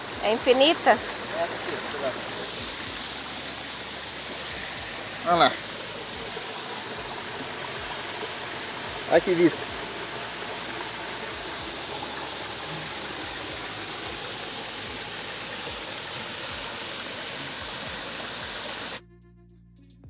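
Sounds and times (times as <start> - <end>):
waterfall rushing: 0.0 - 19.0
faint background music: 0.1 - 20.0.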